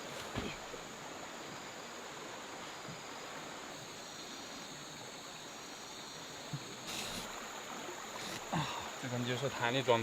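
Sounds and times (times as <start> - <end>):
insect drone: 0.0 - 10.0
running water hiss: 0.0 - 10.0.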